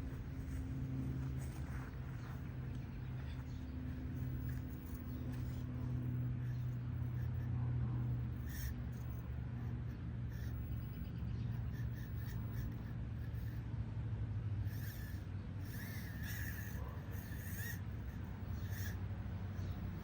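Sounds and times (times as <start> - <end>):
small motor and gear hum: 0.0 - 20.0.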